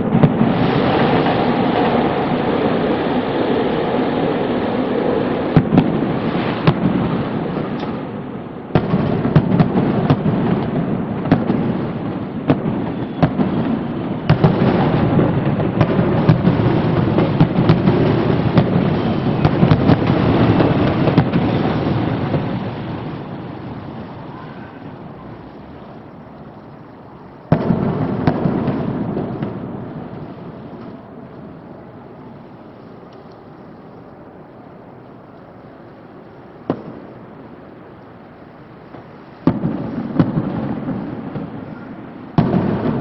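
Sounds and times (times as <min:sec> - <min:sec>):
fireworks cracks and bangs: 0:00.0 - 0:25.5, 0:27.4 - 0:33.8, 0:35.7 - 0:43.0
low rumble of bursts: 0:00.0 - 0:43.0.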